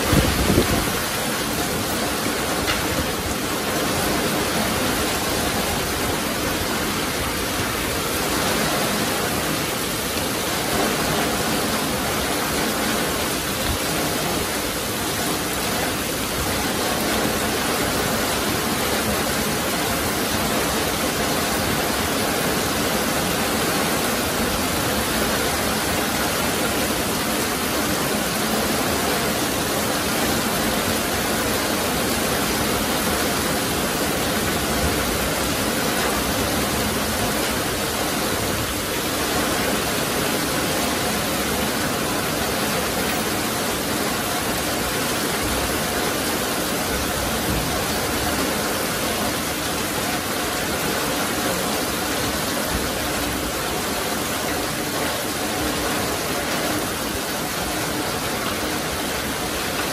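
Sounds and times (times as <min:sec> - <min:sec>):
very heavy rain pouring: 0:00.0 - 0:59.9.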